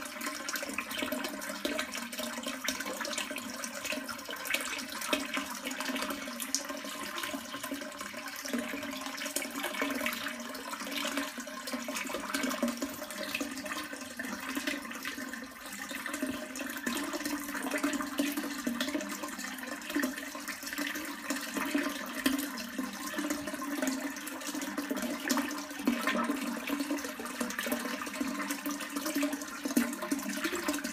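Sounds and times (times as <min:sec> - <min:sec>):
water running into toilet bowl: 0:00.0 - 0:30.9.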